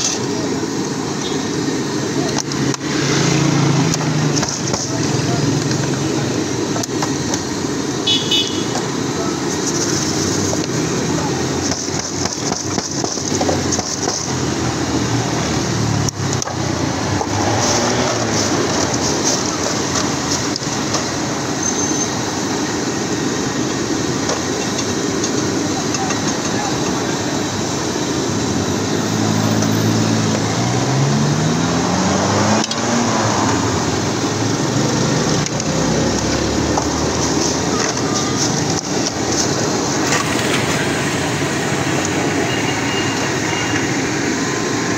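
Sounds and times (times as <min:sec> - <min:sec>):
engine low hum: 0:00.0 - 0:44.9
loud steady hiss: 0:00.0 - 0:44.9
street traffic: 0:00.0 - 0:44.9.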